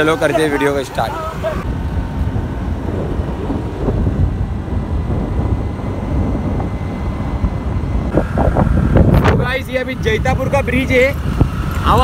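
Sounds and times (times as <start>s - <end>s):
vehicle wind and road noise: 0.0s - 12.0s
wind buffeting microphone: 0.0s - 12.0s.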